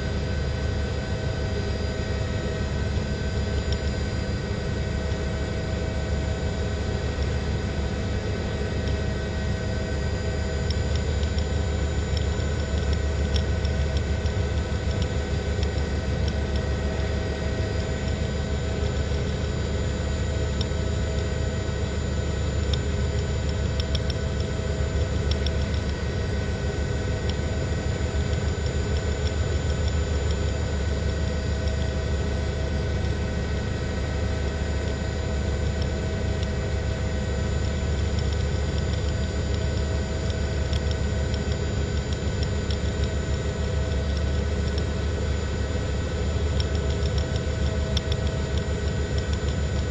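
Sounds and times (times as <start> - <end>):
helicopter engine and rotor: 0.0 - 49.9.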